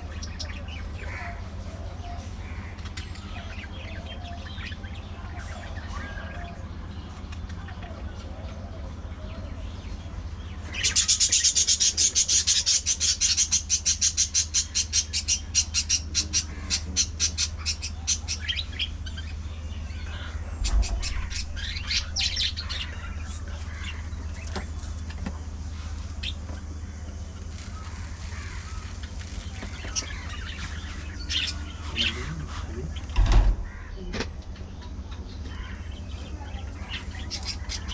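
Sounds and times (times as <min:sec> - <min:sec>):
budgerigars chirping: 0:00.0 - 0:37.9.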